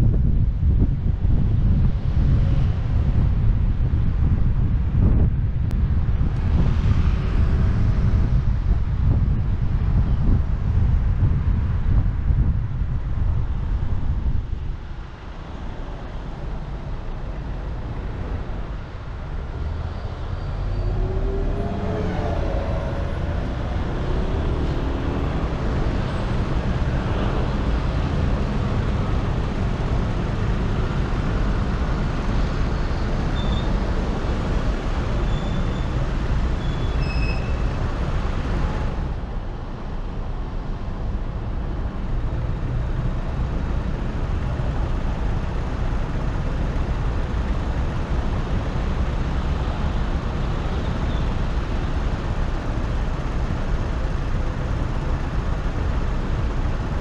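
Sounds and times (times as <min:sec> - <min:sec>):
traffic idling and moving: 0:00.0 - 0:57.0.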